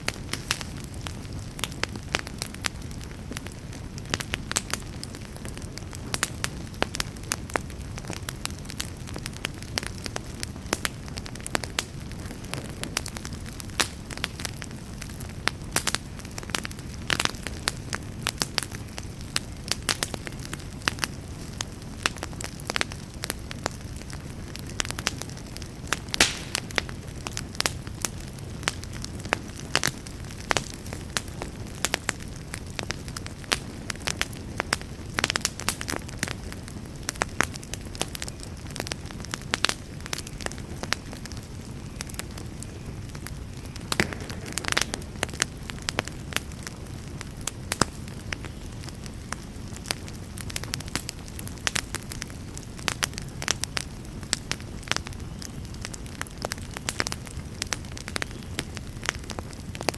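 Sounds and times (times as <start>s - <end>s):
campfire crackling and popping: 0.0s - 59.9s
low fire rumble: 0.0s - 59.9s.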